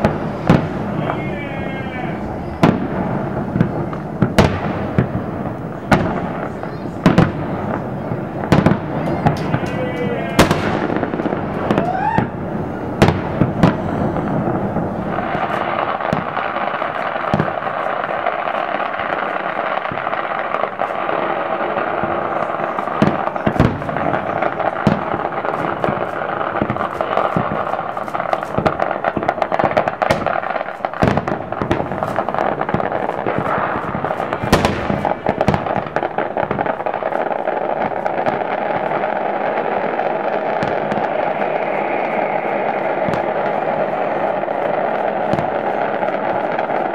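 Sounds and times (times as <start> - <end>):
dense steady hiss: 0.0 - 46.9
firework shells bursting: 0.0 - 46.9.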